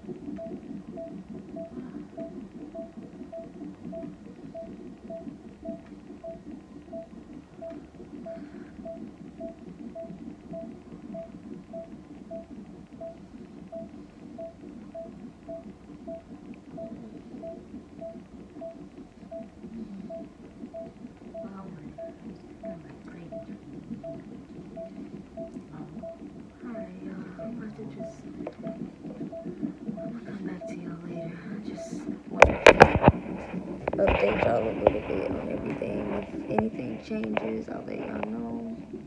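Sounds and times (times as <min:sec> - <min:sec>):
monitor beeping: 0:00.0 - 0:39.0.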